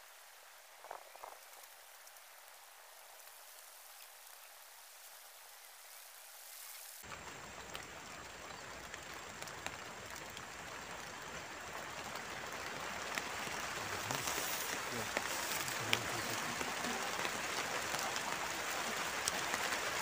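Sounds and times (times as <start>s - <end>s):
raindrops ticking: 0.0s - 4.4s, 7.0s - 20.0s
rain hiss: 0.0s - 20.0s.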